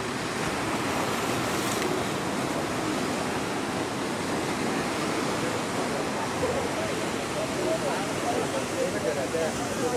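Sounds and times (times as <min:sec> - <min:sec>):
ocean surf breaking: 0:00.0 - 0:09.9.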